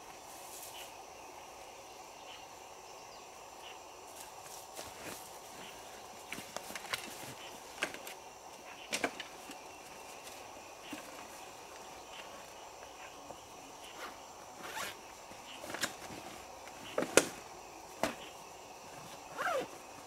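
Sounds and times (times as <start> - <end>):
faint high insect drone: 0.0 - 20.0.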